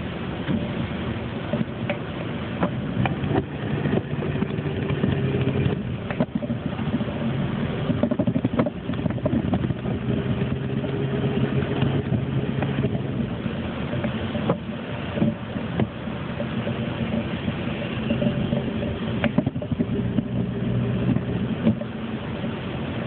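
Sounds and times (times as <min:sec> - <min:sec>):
vehicle engine running: 0:00.0 - 0:23.0
scattered clicks and knocks: 0:01.5 - 0:07.2, 0:07.8 - 0:13.0, 0:13.8 - 0:22.7.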